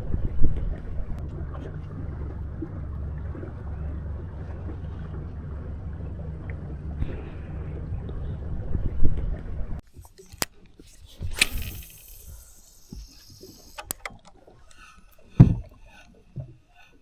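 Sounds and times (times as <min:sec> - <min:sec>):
wind and water rumble: 0:00.0 - 0:09.8, 0:11.2 - 0:17.0.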